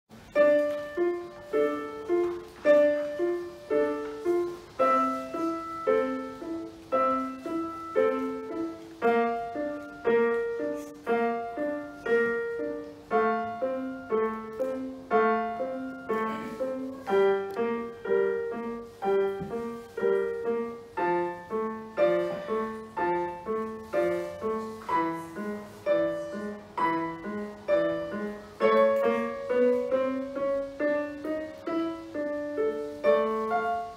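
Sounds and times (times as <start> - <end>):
digital piano piece: 0.1 - 33.9.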